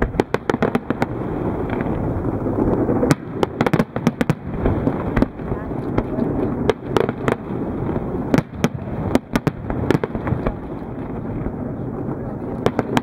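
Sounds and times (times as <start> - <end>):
continuous rumble: 0.0 - 13.0
fireworks bangs and crackles: 0.0 - 13.0.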